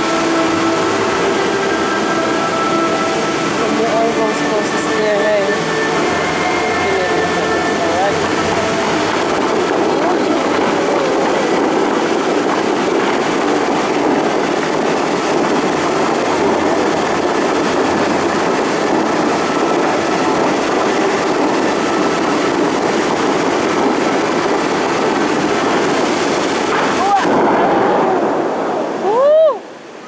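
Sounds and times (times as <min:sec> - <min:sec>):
roar of fountain water jets: 0:00.0 - 0:30.0.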